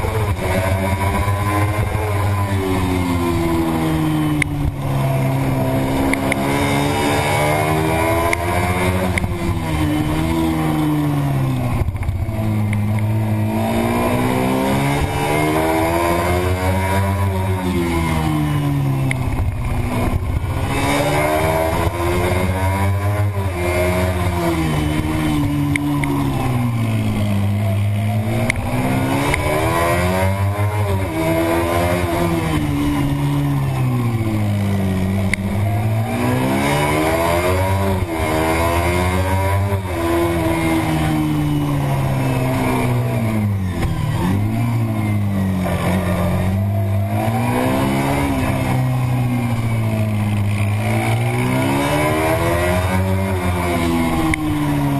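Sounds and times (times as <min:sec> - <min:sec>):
racing motorcycle engine revving: 0:00.0 - 0:54.9.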